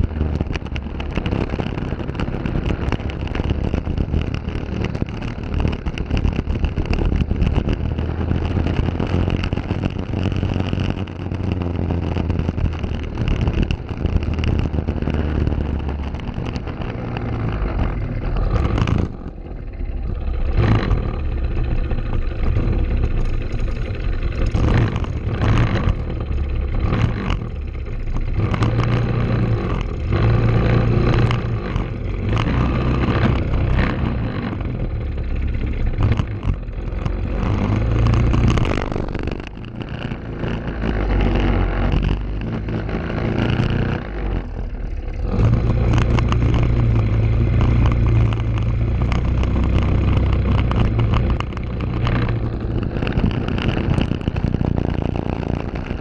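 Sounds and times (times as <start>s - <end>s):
kart engine running hard: 0.0s - 56.0s.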